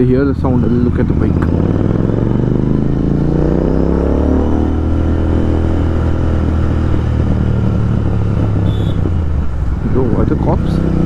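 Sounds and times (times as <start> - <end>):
motorcycle engine running loud: 0.0 - 11.0.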